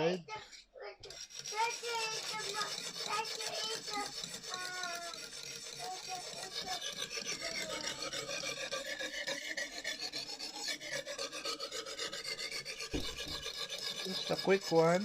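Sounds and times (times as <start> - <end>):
sharpening stone scraping knife: 0.3 - 15.0.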